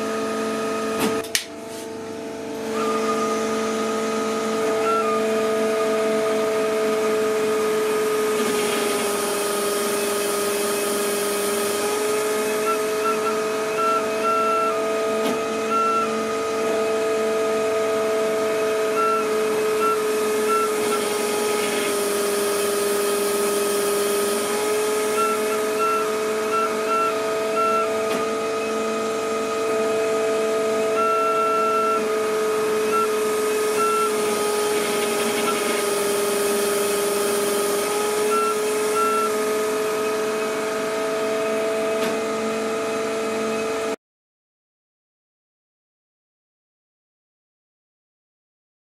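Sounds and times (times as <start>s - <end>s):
hydraulic pump whining: 0.0s - 44.0s.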